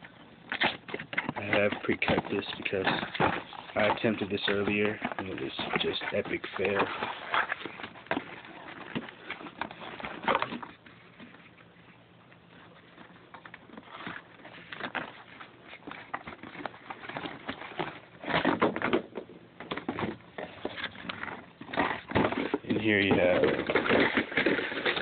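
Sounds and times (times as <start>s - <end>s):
cardboard box and paper rustling: 0.5s - 11.9s, 12.6s - 25.0s.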